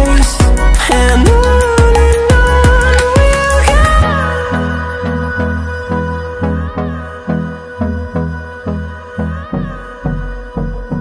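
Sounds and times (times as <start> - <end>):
music with steady beat: 0.0 - 11.0
sustained bass notes: 0.0 - 11.0.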